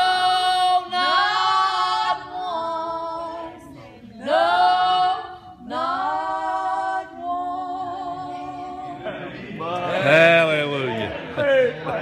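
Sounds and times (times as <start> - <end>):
a cappella hymn singing: 0.0 - 11.7.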